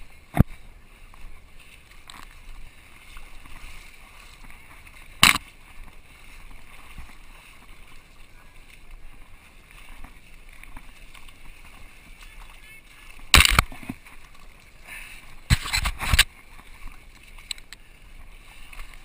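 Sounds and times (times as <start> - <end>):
muddy water sloshing and splashing: 0.0 - 19.0.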